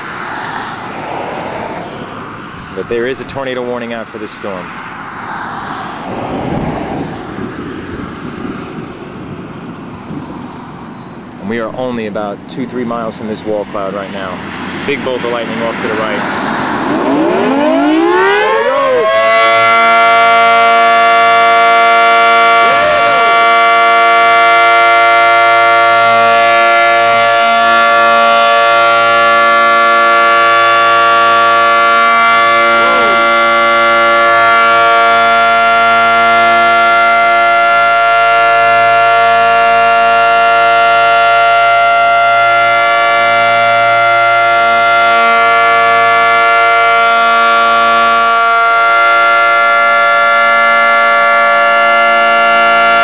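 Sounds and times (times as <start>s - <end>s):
tornado warning siren wailing: 0.0s - 53.0s.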